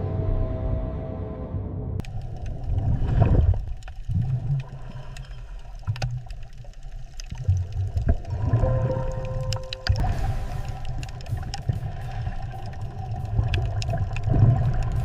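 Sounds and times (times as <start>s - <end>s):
underwater low rumble: 0.0s - 15.0s
bubbling clicks and gurgles: 2.0s - 15.0s.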